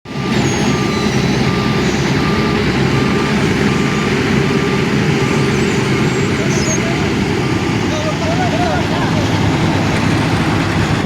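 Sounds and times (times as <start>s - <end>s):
diesel engine running: 0.1s - 11.0s
reversing alarm beeping: 0.1s - 11.0s.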